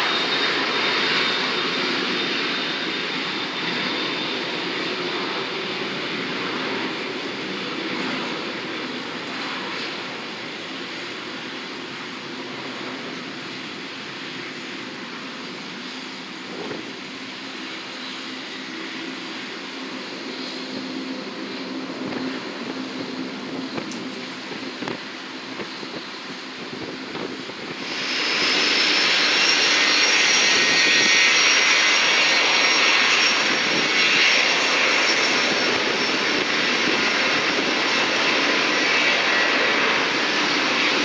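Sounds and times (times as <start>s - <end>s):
aircraft engines passing: 0.0s - 41.0s.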